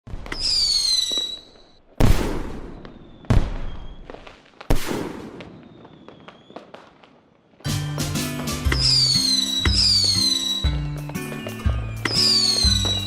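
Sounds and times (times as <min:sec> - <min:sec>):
firework bangs: 0:00.1 - 0:13.0
firework crackles: 0:00.1 - 0:13.0
whistling firework: 0:00.2 - 0:07.1, 0:08.6 - 0:13.0.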